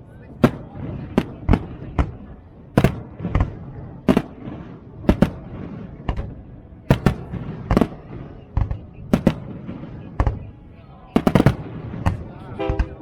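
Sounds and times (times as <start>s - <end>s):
low rumble of fireworks: 0.0s - 13.0s
fireworks bangs: 0.2s - 13.0s.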